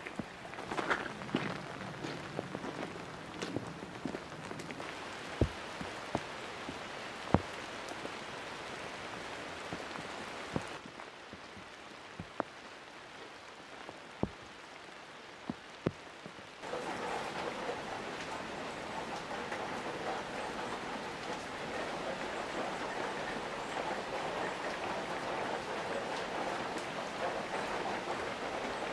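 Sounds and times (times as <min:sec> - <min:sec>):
heavy raindrops landing: 0:00.0 - 0:28.9
steady rain on wet ground: 0:00.0 - 0:28.9.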